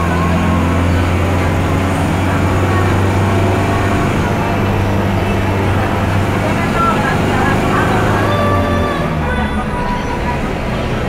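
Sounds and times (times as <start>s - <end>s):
bus engine drone: 0.0s - 11.0s
tyre and road rumble: 0.0s - 11.0s.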